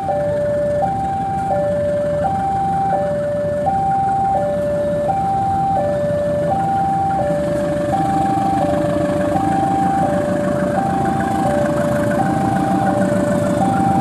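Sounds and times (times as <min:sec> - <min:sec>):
diesel locomotive rumble: 0:00.0 - 0:14.0
two-tone warning alarm: 0:00.0 - 0:14.0.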